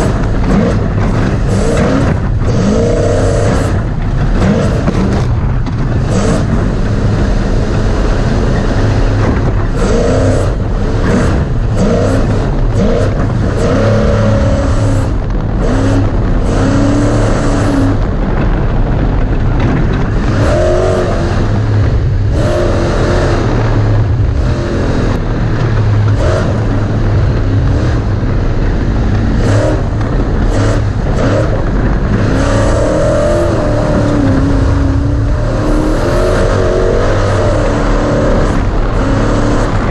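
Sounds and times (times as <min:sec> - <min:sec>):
knocks and clatters on rough dirt: 0:00.0 - 0:39.9
truck engine revving: 0:00.0 - 0:39.9.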